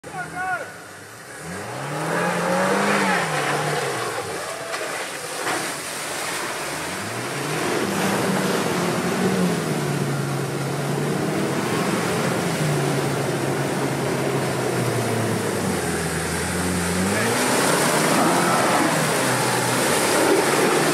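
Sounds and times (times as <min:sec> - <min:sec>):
engine revving: 0:01.2 - 0:04.6, 0:05.3 - 0:20.9
water splashing and sloshing: 0:01.4 - 0:20.9.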